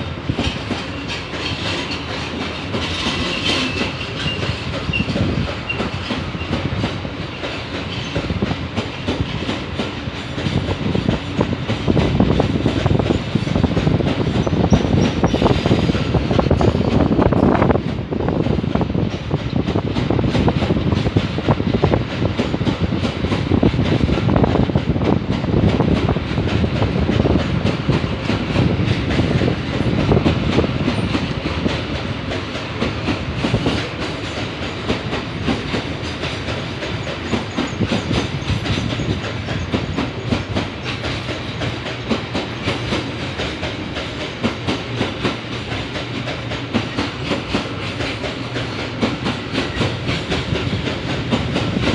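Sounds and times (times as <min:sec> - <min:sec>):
wheels clicking over rail joints: 0:00.2 - 0:51.9.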